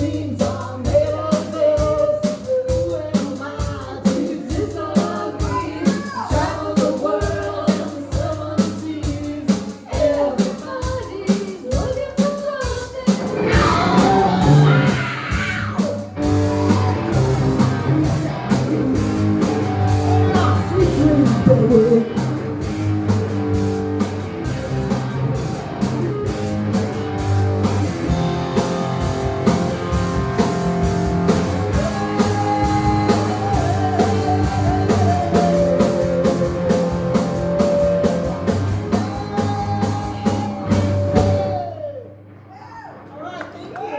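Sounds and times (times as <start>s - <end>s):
rock band playing live: 0.0s - 41.6s.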